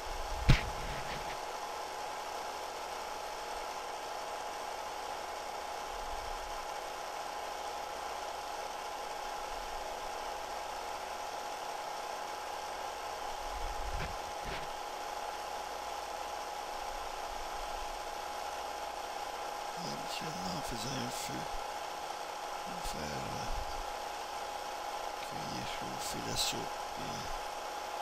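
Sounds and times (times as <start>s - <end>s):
machine hum and hiss: 0.0s - 28.0s
thin constant whine: 0.0s - 28.0s.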